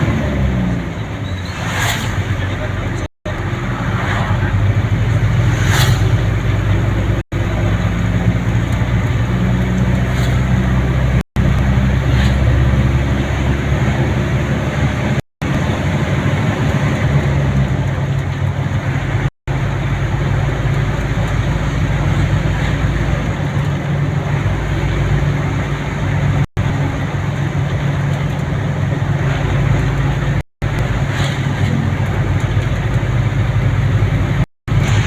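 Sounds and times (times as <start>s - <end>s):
road noise: 0.0s - 35.0s
vehicle engine hum: 0.0s - 35.0s.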